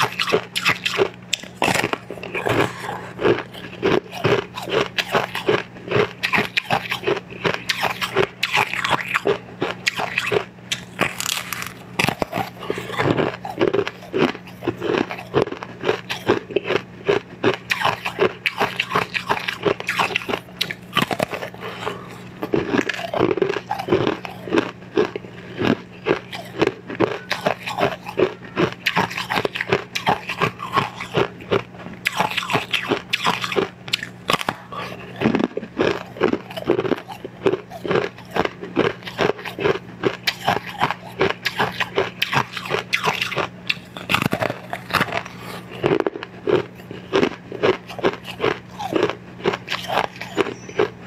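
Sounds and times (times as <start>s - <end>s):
crunching and chewing candy: 0.0s - 51.0s.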